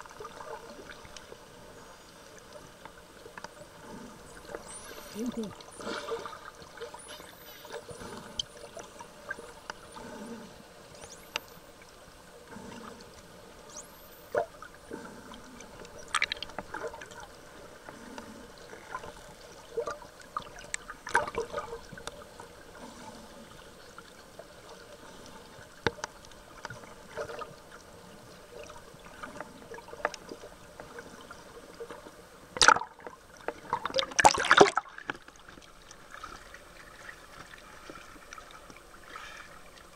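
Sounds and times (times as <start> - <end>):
splashing and bubbling water: 0.0 - 1.5, 3.5 - 11.4, 12.4 - 23.4, 24.0 - 39.9
low water hiss: 0.0 - 39.9.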